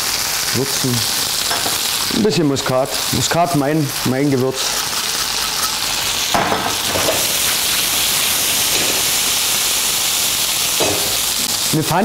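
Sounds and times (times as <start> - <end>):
gnocchi sizzling in butter: 0.0 - 12.0.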